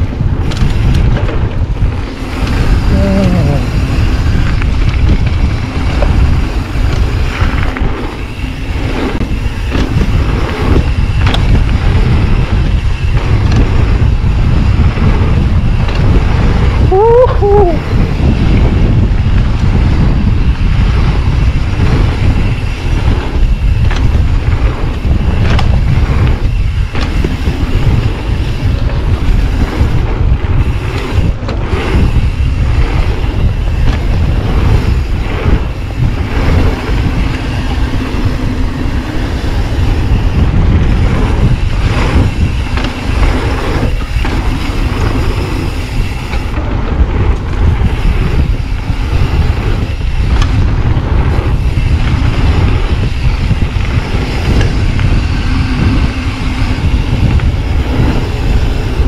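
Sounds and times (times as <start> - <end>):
bike knocking and rattling: 0.0 - 59.0
tyre rumble: 0.0 - 59.0
wind buffeting microphone: 0.0 - 59.0.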